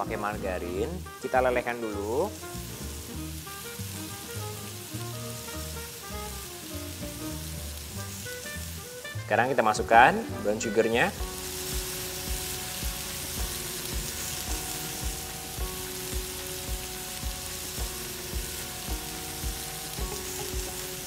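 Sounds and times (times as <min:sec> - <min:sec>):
background music with soft beat: 0:00.0 - 0:21.0
butter sizzling in frying pan: 0:00.0 - 0:21.0.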